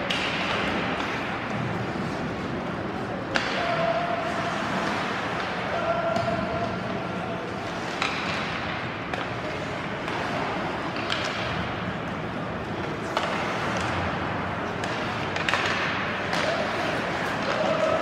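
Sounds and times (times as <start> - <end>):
arena crowd hum: 0.0 - 18.0
hockey stick hitting puck: 0.0 - 18.0.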